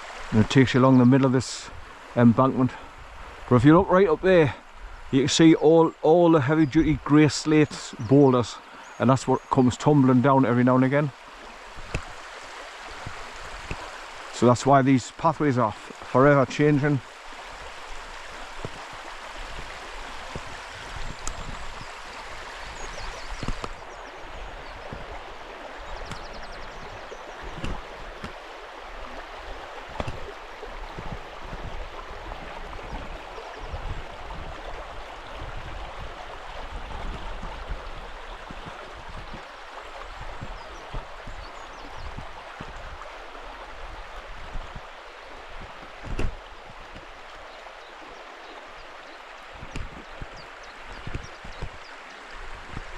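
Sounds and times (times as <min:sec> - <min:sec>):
stream running over stones: 0:00.0 - 0:52.9.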